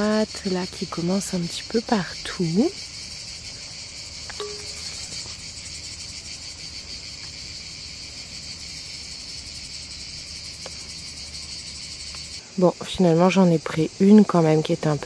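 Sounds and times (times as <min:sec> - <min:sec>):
cicadas chirring: 0:00.0 - 0:15.0.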